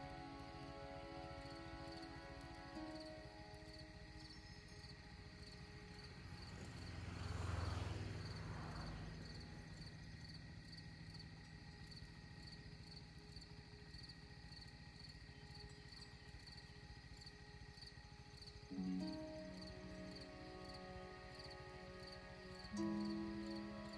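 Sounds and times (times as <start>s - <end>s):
insects chirping: 0.0s - 23.9s.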